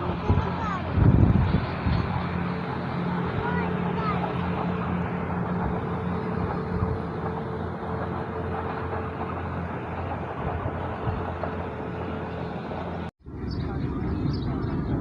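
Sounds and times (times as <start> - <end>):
low engine hum: 0.0 - 15.0
train wheels rumbling on rails: 0.0 - 15.0.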